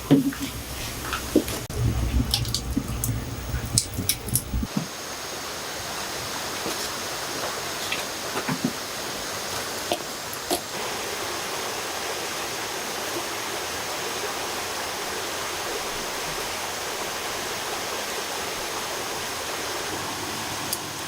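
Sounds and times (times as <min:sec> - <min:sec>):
stream flowing: 0:00.0 - 0:21.0.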